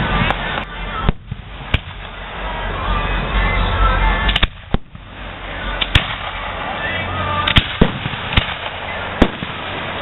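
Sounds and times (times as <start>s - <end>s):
background rumble and hiss: 0.0s - 10.0s
fireworks bursting bangs: 0.0s - 10.0s.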